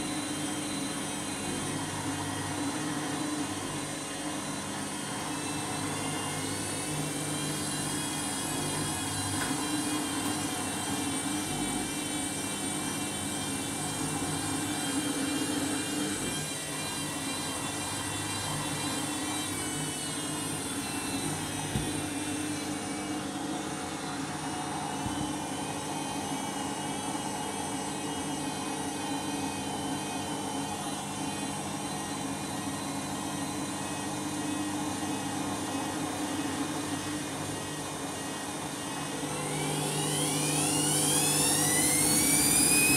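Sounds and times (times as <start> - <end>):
washing machine spinning: 0.0 - 42.9.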